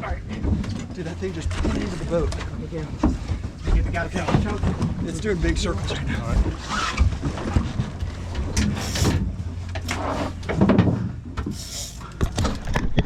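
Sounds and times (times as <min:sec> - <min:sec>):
low boat hum: 0:00.0 - 0:13.0
gear knocking and scraping on deck: 0:00.1 - 0:13.0.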